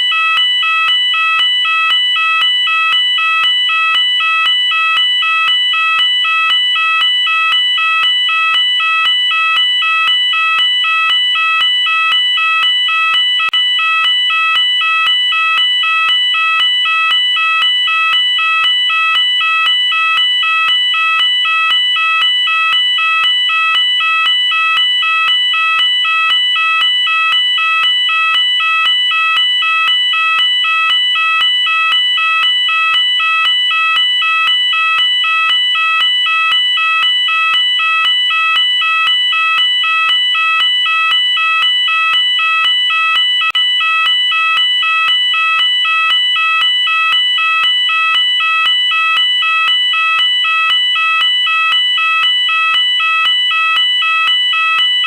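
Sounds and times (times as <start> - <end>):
fire alarm two-tone warble: 0.0 - 55.0.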